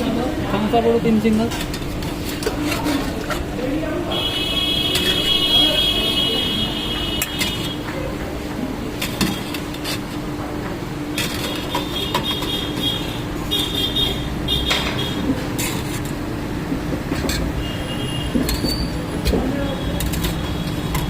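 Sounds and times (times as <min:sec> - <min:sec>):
street hum: 0:00.0 - 0:21.0.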